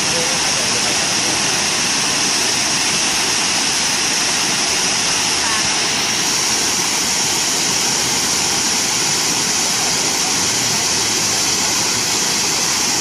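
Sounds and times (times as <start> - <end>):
water rushing down cascades: 0.0 - 13.0.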